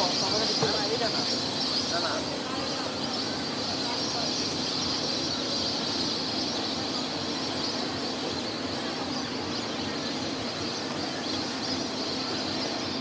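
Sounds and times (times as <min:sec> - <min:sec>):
flock of birds calling: 0:00.0 - 0:13.0.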